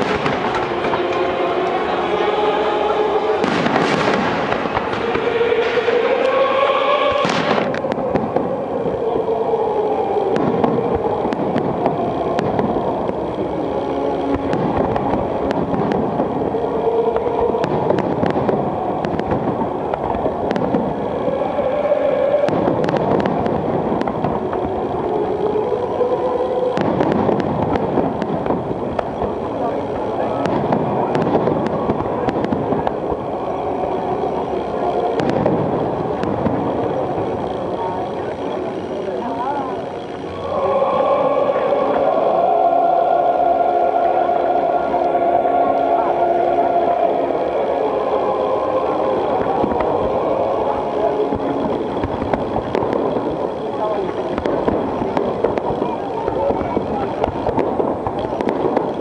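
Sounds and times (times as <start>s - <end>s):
continuous rumbling din: 0.0s - 59.0s
fireworks crackling and popping: 0.0s - 59.0s.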